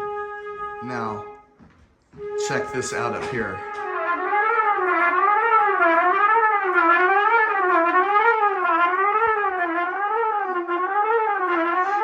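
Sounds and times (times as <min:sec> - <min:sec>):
trumpet note bending in pitch: 0:00.0 - 0:01.5, 0:02.1 - 0:12.0.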